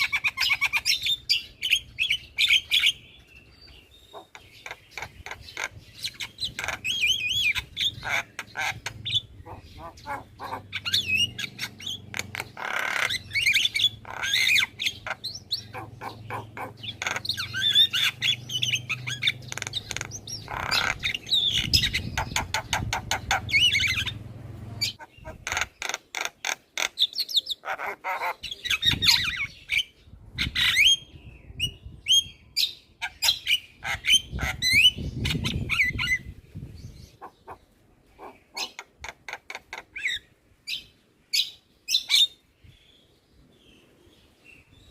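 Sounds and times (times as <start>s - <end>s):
bird chattering: 0.0s - 31.0s, 37.0s - 42.4s.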